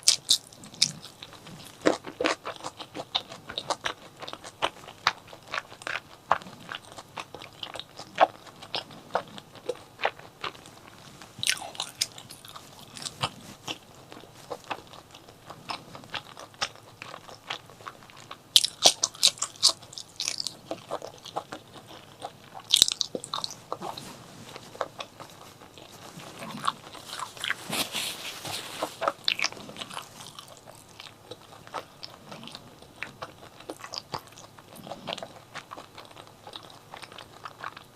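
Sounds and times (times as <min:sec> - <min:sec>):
wet chewing: 0:00.0 - 0:37.9.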